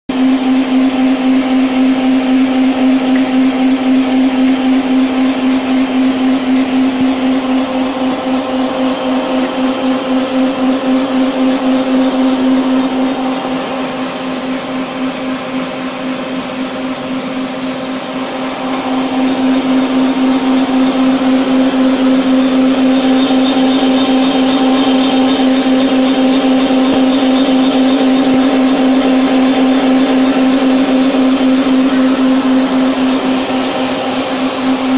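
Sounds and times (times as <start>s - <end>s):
electric motors humming: 0.2s - 34.9s.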